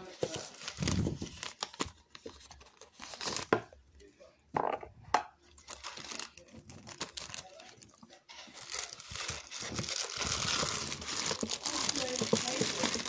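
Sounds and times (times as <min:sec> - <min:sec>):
plastic bag crinkling: 0:00.0 - 0:03.5, 0:05.6 - 0:13.0.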